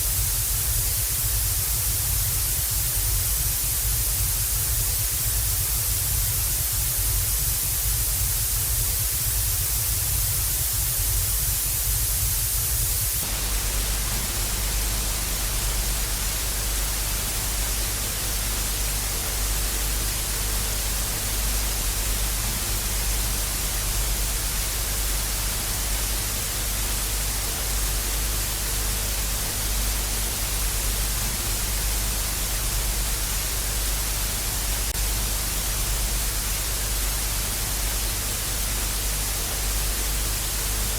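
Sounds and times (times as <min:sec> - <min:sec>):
faint hum: 0:00.0 - 0:40.9
tv static hiss: 0:00.0 - 0:40.9.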